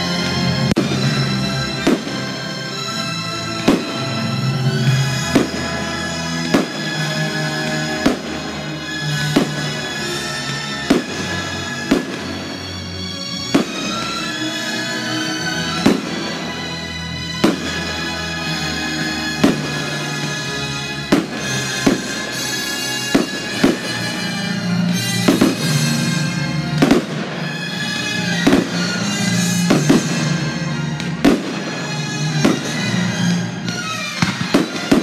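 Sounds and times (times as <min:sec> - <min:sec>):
fireworks bursting with bangs: 0:00.0 - 0:35.0
music: 0:00.0 - 0:35.0.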